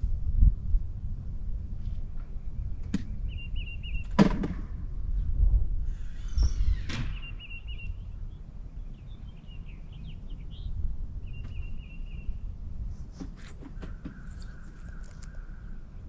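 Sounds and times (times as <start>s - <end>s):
low outdoor rumble: 0.0s - 16.0s
songbirds chirping: 1.8s - 4.2s, 5.1s - 16.0s.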